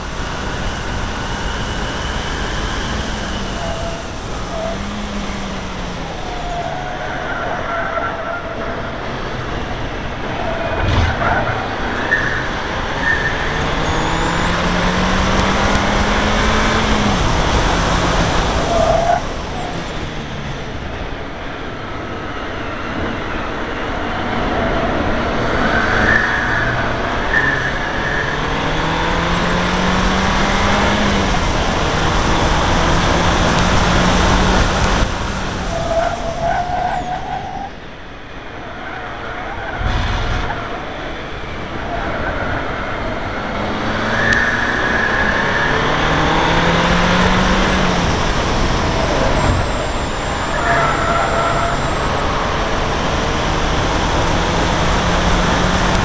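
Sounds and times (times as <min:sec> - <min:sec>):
car engine accelerating hard: 0:00.0 - 0:56.0
road noise: 0:00.0 - 0:56.0.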